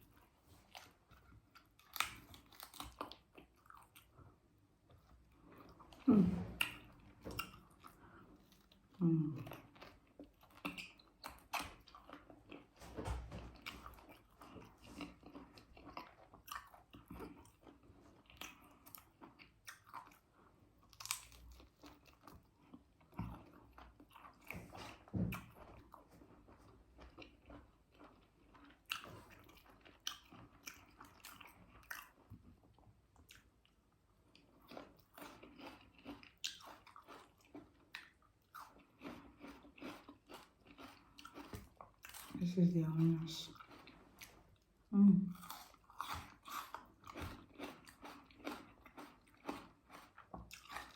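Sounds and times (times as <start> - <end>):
person crunching and chewing: 0.0 - 4.2, 4.8 - 12.8, 13.6 - 50.9.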